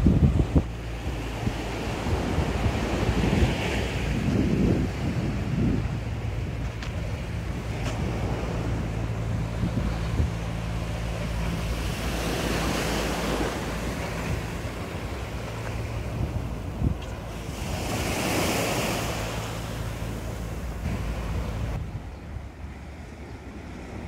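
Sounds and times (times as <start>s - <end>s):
sea waves washing on shore: 0.0s - 24.0s
wind buffeting microphone: 0.0s - 24.0s.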